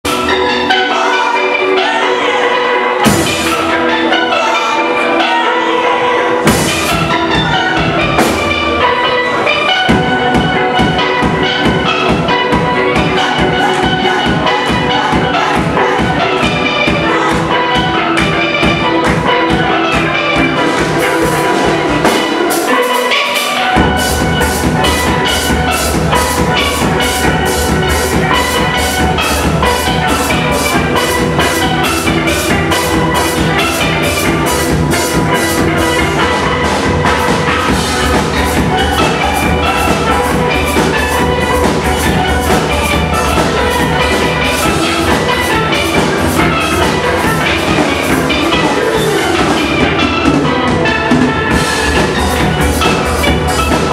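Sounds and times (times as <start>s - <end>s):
drums: 0.0s - 53.9s
steelpans playing rhythmic melody: 0.0s - 53.9s.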